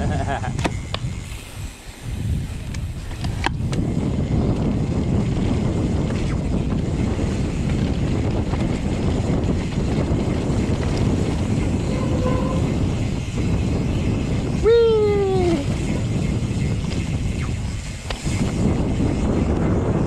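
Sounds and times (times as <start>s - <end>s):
bike tyres rolling on dirt: 0.0s - 20.0s
wind buffeting microphone: 0.0s - 20.0s.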